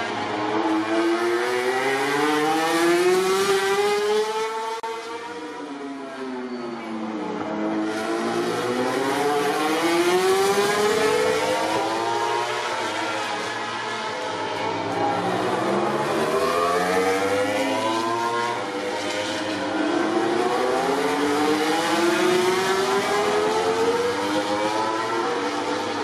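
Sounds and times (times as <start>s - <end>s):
racing motorcycle engines accelerating: 0.0s - 26.0s.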